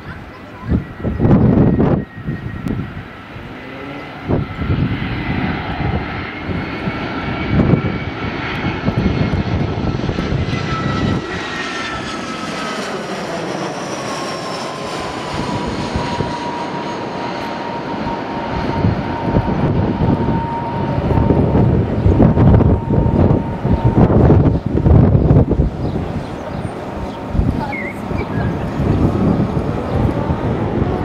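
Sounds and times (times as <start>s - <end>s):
jet engines passing overhead: 0.0s - 31.0s.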